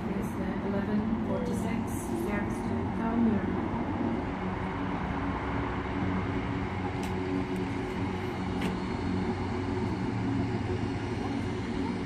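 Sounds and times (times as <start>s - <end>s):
electric train hum: 0.0s - 12.0s
train rolling rumble: 0.0s - 12.0s.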